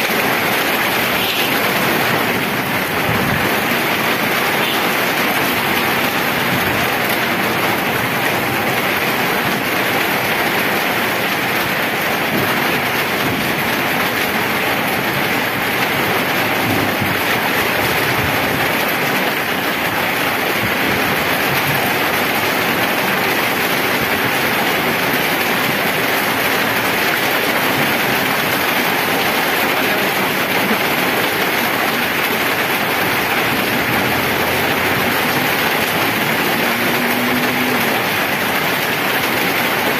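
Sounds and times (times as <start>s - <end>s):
heavy rain on pavement: 0.0s - 39.9s.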